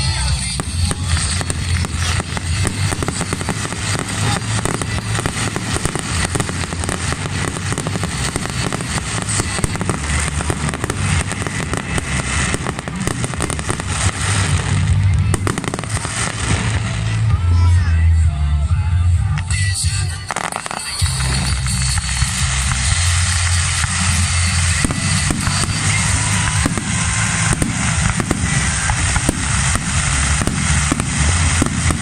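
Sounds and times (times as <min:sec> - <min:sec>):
deep fireworks booms: 0:00.0 - 0:17.8, 0:19.4 - 0:32.0
fireworks crackling: 0:00.0 - 0:32.0
music: 0:00.0 - 0:32.0.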